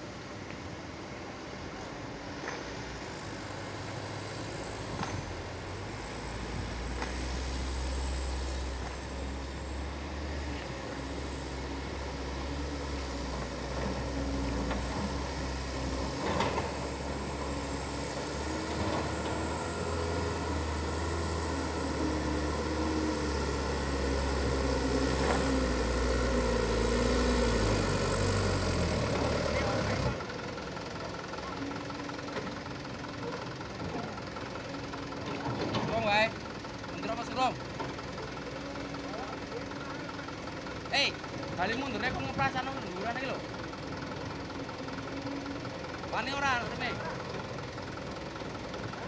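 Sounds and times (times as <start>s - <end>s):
heavy vehicle engine rumbling: 0.0s - 49.0s.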